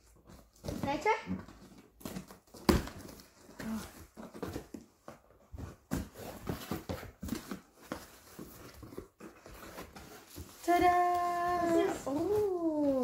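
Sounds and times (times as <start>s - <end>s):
cardboard box being handled: 0.0s - 13.0s.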